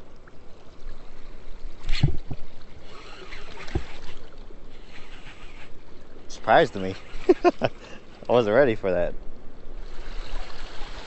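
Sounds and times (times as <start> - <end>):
river water sloshing and splashing: 0.0 - 11.0.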